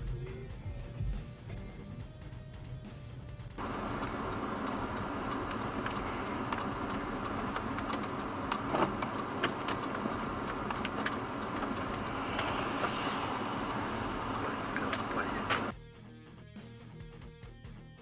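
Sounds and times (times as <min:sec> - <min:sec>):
vehicle running noise: 0:00.2 - 0:15.7.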